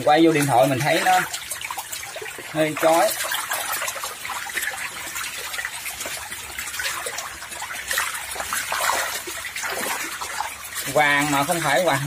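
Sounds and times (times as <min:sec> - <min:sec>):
fish splashing in shallow water: 0:00.0 - 0:12.0
water trickling: 0:00.0 - 0:12.0.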